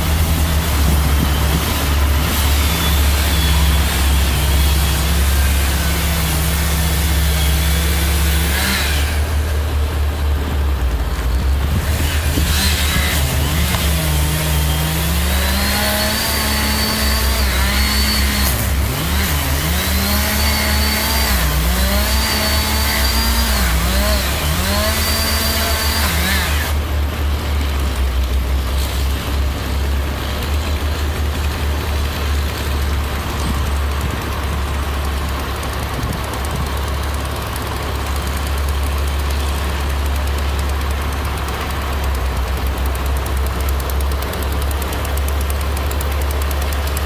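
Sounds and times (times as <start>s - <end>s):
chainsaw revving: 0.0s - 47.0s
low diesel engine hum: 0.0s - 47.0s.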